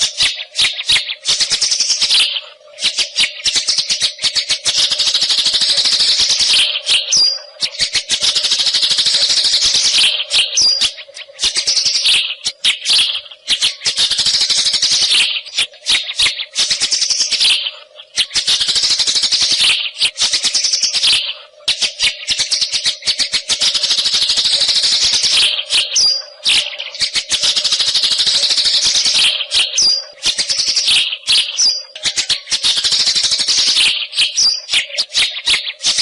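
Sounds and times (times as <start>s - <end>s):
bird singing chattering phrases: 0.0s - 36.0s
high whistled bird notes: 0.0s - 36.0s.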